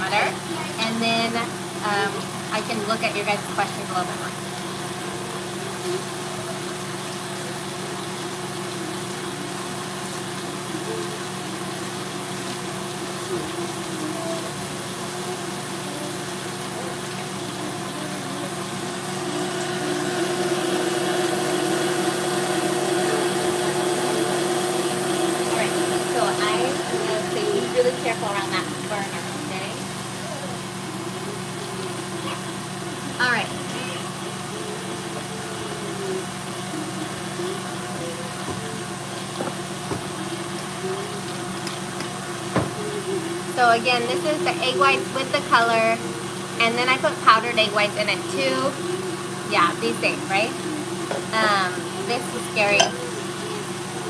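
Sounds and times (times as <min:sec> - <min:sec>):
stand mixer motor humming: 0:00.0 - 0:54.0.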